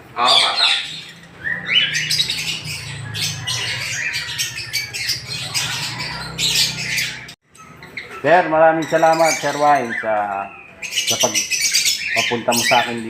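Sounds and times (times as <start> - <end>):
lovebirds squawking and chirping: 0.0 - 13.0.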